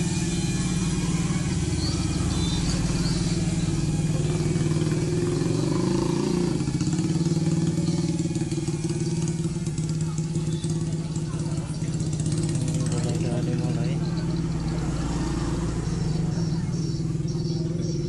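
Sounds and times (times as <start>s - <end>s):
drone propellers buzzing: 0.0s - 17.7s.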